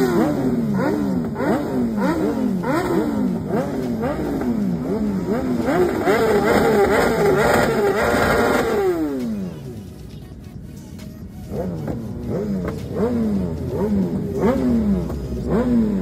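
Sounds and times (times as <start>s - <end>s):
motorcycle engine revving: 0.0s - 9.9s, 11.3s - 16.0s.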